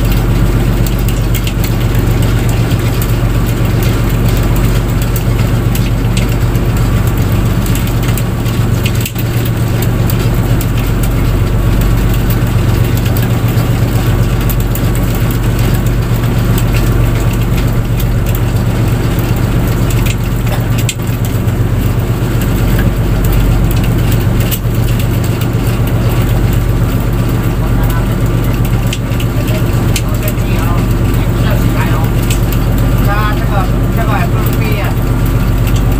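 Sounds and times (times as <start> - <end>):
boat engine humming: 0.0 - 35.9.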